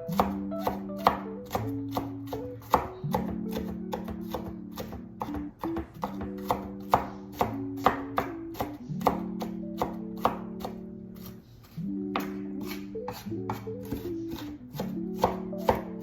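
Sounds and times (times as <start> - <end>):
background music: 0.0 - 16.0
knife chopping onion on board: 0.1 - 16.0.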